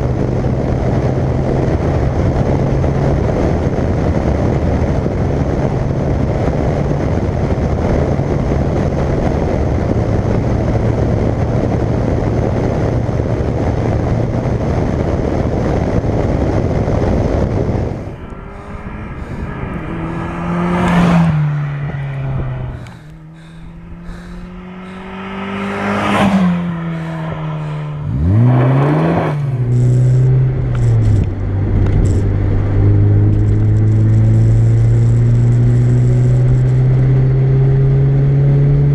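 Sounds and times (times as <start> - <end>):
car engine while driving: 0.0 - 38.9
exhaust note revving: 0.0 - 38.9
road and wind noise: 0.0 - 38.9.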